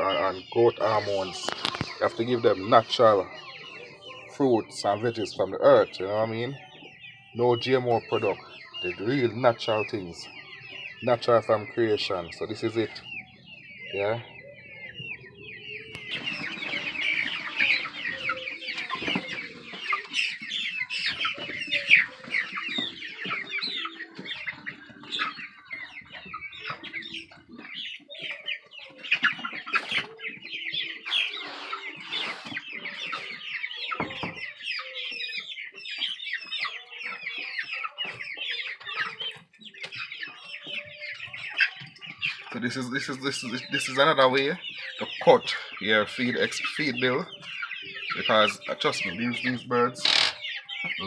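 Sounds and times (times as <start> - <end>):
chickens clucking: 0.0 - 51.0
chickens peeping: 0.0 - 51.0.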